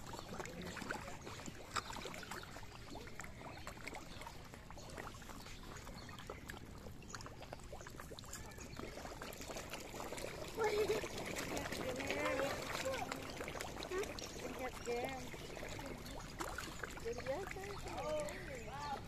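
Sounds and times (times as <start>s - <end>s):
fish splashing at pond surface: 0.0s - 19.0s.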